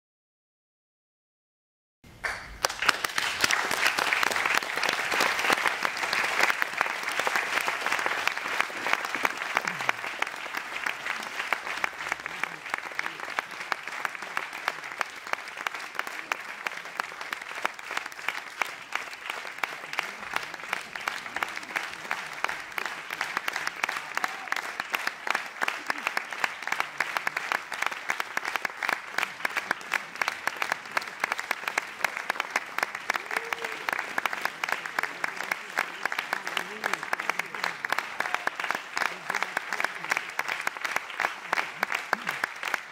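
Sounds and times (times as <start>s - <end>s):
audience applauding: 2.1s - 42.9s.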